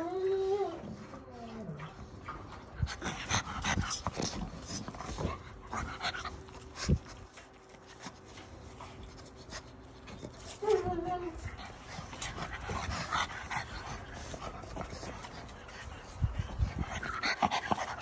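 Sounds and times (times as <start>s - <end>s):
dogs panting and sniffing: 0.0s - 18.0s.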